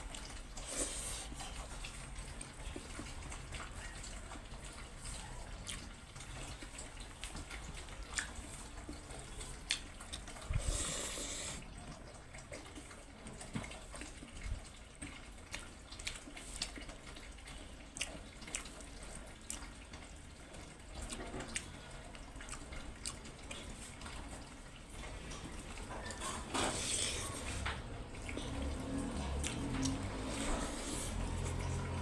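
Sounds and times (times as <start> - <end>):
wet chewing and lip-smacking: 0.0 - 32.0.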